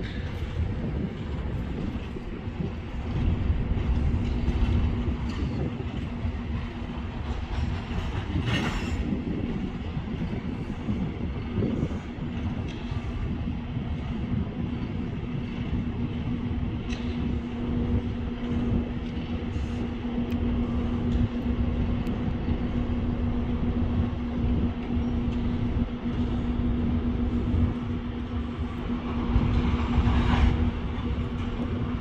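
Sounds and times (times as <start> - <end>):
constant hum: 0.0 - 32.0
freight train rumbling: 0.0 - 32.0.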